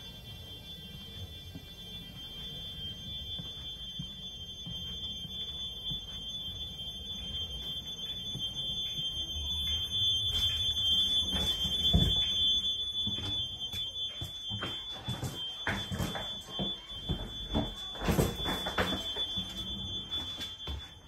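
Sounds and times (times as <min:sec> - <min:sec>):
high-pitched whine in train coach: 0:00.0 - 0:21.0
knocks and footsteps: 0:00.1 - 0:21.0.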